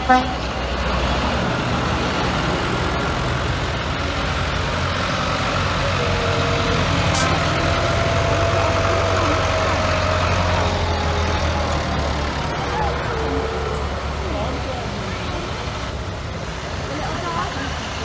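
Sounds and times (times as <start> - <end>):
tractor engines droning: 0.0 - 18.0.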